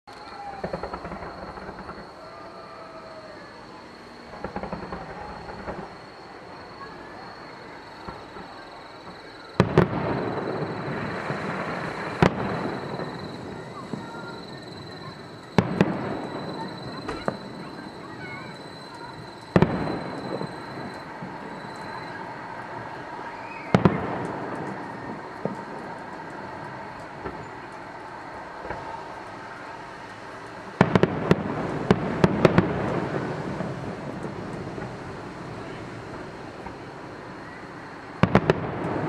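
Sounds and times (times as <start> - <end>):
firework crackle: 0.1 - 39.0
firework booms: 0.2 - 29.1, 30.7 - 39.0.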